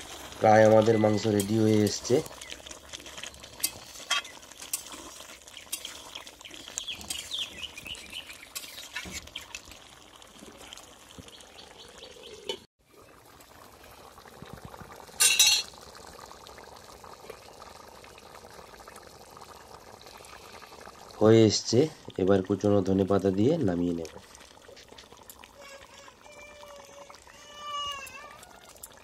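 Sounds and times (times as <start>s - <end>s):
curry bubbling: 0.0s - 29.0s.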